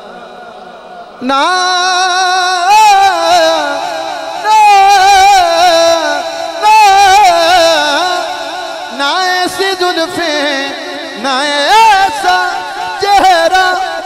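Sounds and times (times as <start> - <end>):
man singing through microphone: 0.0 - 14.0.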